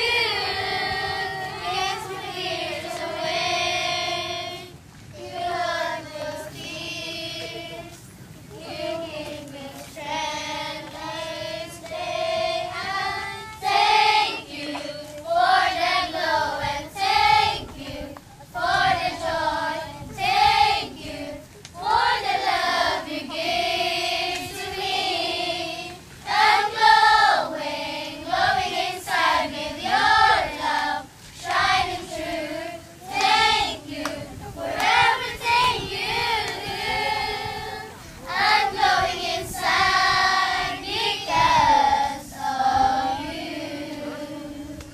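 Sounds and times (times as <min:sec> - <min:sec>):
girls singing together: 0:00.0 - 0:44.9.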